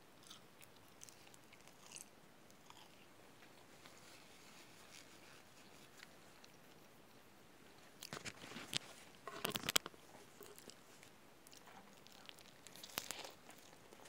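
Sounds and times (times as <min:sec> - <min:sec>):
faint chewing: 0:00.2 - 0:14.0.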